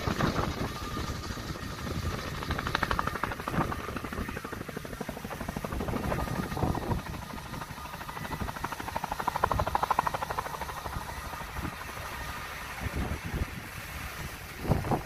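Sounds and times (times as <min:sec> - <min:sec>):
helicopter rotor blades chopping: 0:00.0 - 0:15.0.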